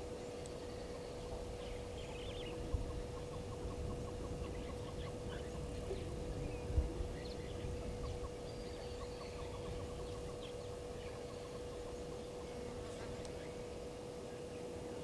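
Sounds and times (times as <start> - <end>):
faint chirps and ticks: 0.0 - 15.0
steady low hum: 0.0 - 15.0.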